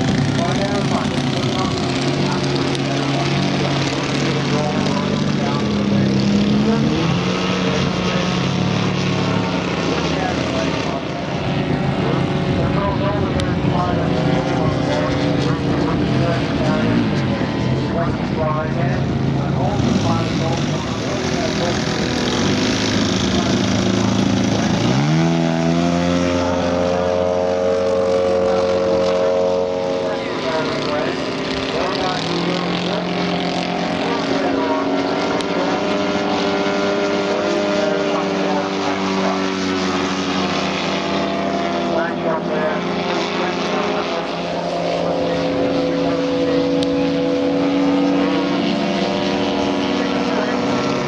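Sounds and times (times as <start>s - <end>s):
model airplane engine revving: 0.0s - 51.0s.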